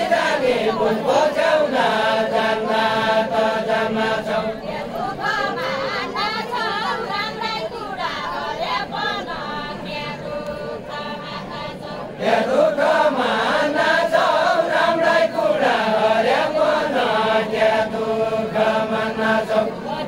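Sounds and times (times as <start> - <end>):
group singing in unison: 0.0 - 20.0.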